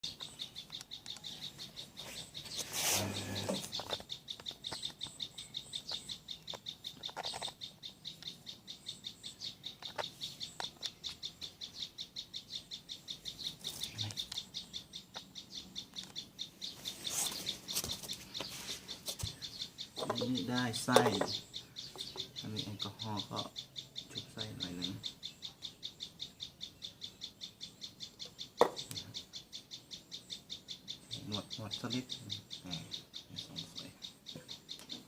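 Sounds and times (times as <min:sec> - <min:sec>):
rapid high-pitched chirping: 0:00.0 - 0:35.0.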